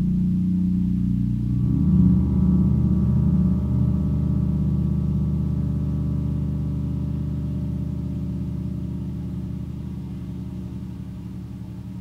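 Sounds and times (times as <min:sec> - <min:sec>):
low synthesizer drone: 0:00.0 - 0:12.0.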